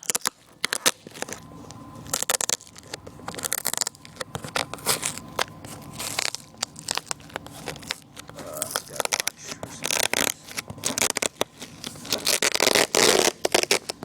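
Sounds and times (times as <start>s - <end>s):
packaging crackling and rustling: 0.0s - 14.0s.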